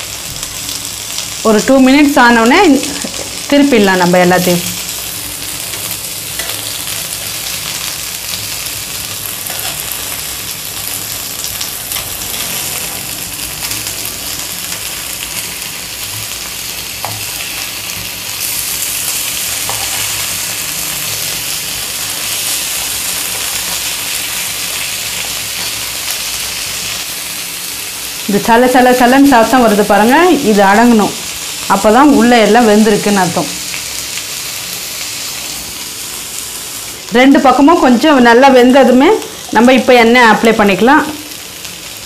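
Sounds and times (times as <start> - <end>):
fish sizzling on a hot pan: 0.0 - 42.0.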